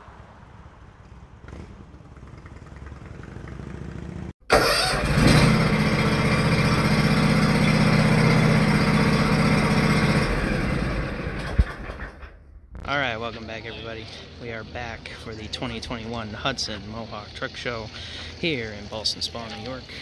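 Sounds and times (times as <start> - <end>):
engine running: 1.4 - 12.4, 14.0 - 20.0.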